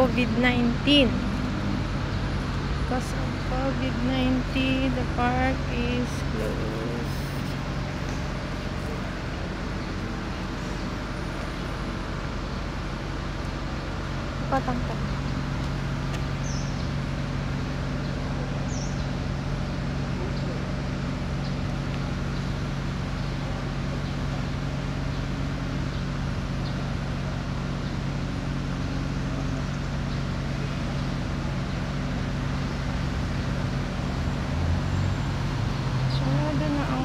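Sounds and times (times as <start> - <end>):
city traffic drone: 0.0 - 37.0.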